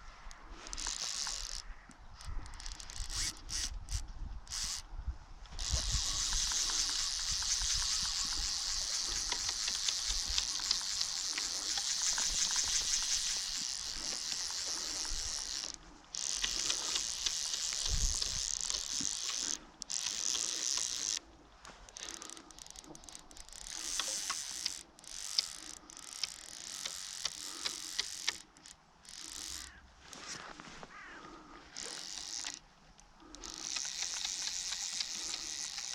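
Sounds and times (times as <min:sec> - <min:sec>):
fishing reel ratchet clicking: 0:00.3 - 0:04.9, 0:05.6 - 0:21.2, 0:21.9 - 0:29.8, 0:31.8 - 0:35.9.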